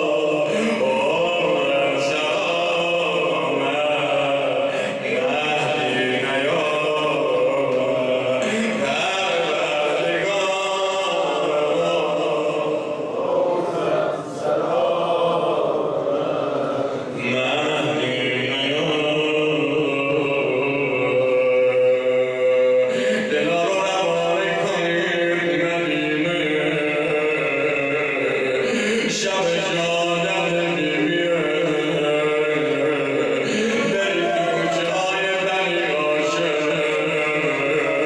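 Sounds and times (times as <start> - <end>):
man chanting into a microphone: 0.0 - 38.0.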